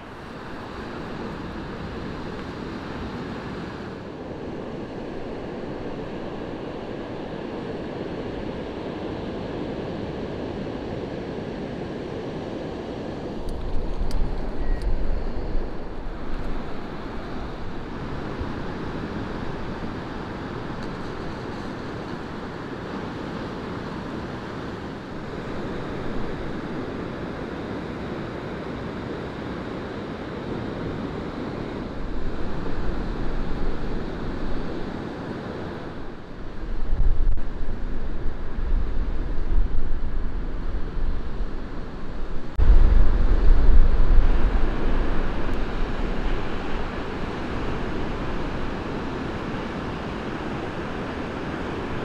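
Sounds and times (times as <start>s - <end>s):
deep rumble of surf: 0.0s - 52.0s
ocean surf breaking: 0.0s - 52.0s.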